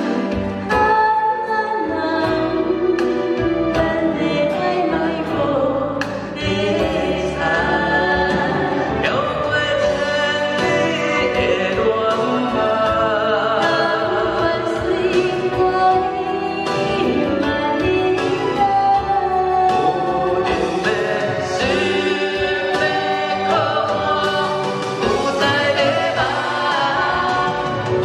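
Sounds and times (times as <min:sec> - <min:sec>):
instrumental backing music: 0:00.0 - 0:28.0
man and woman singing duet: 0:00.0 - 0:28.0.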